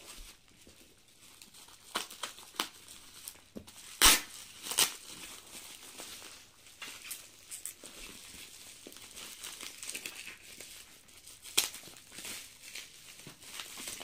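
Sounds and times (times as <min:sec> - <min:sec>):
plastic wrapping crinkling and tearing: 0:00.0 - 0:14.0.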